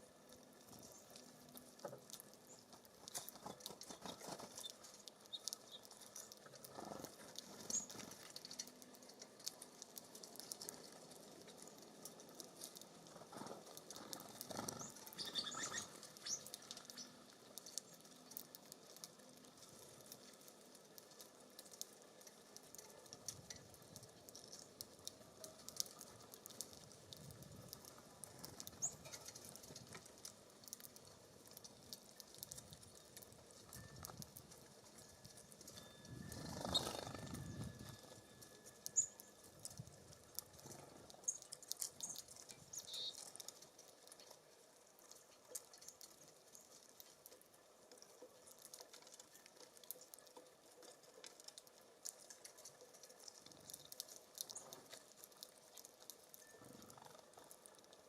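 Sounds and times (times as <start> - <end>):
birds pecking seeds: 0.0 - 58.0.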